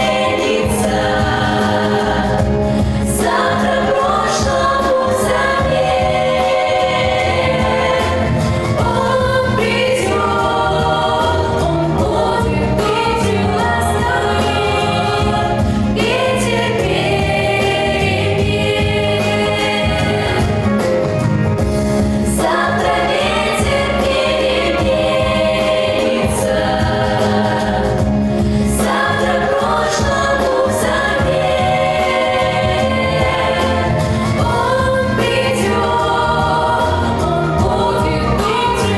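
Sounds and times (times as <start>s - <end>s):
instrumental accompaniment: 0.0s - 38.9s
vocal ensemble singing: 0.0s - 38.9s.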